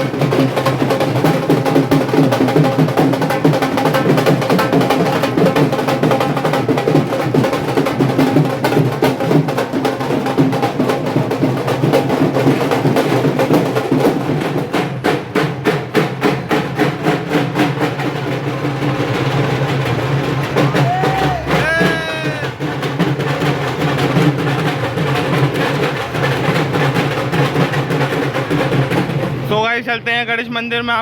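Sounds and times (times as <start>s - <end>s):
fast dense drumming: 0.0s - 29.8s.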